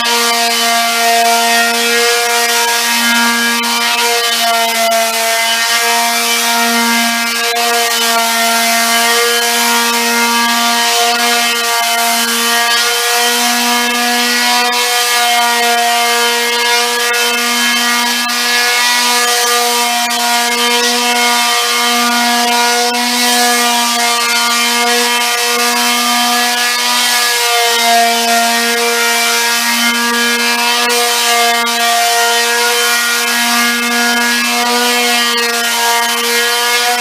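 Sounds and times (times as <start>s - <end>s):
orbital sander motor whine: 0.0s - 37.0s
sandpaper rubbing wood: 0.1s - 37.0s.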